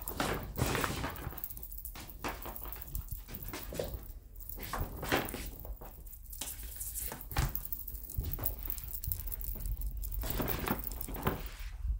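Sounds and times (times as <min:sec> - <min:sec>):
kitten scampering and pouncing: 0:00.0 - 0:11.9.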